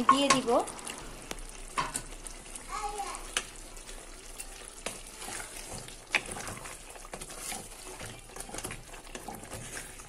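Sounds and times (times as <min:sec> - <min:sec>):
spoon stirring thick gravy: 0:00.0 - 0:10.0.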